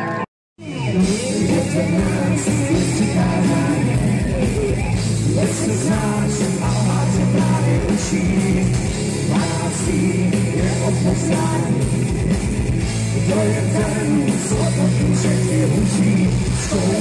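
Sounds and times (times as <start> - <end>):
person singing: 0.0 - 11.9, 13.2 - 17.0
bass guitar: 0.0 - 17.0
drums: 0.0 - 17.0
electric guitars: 0.0 - 17.0.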